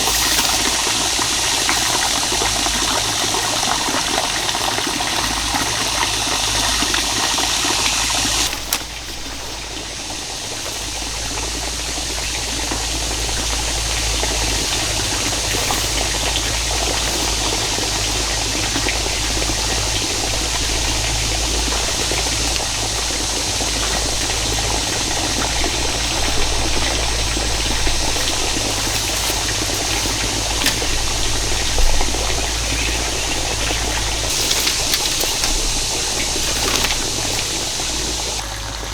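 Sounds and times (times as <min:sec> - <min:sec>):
water rushing and trickling: 0:00.0 - 0:38.9.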